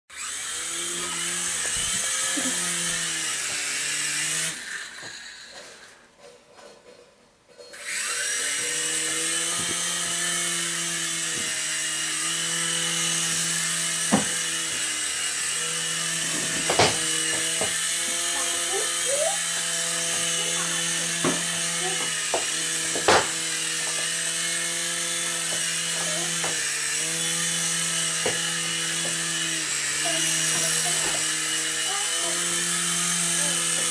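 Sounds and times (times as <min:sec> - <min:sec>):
small electric rotor motors whining: 0:00.1 - 0:06.0, 0:07.7 - 0:33.9.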